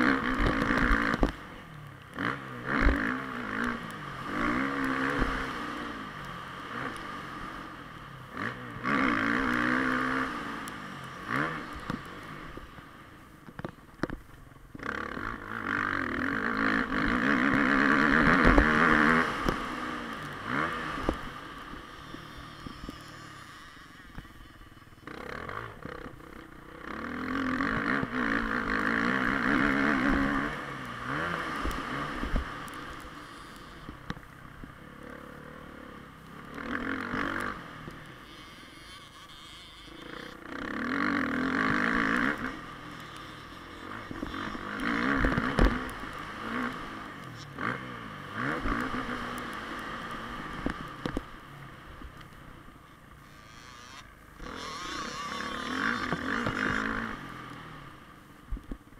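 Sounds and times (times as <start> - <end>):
motocross bike engine revving: 0.0 - 1.4, 2.1 - 12.6, 14.8 - 34.0, 34.7 - 51.2, 52.9 - 58.0.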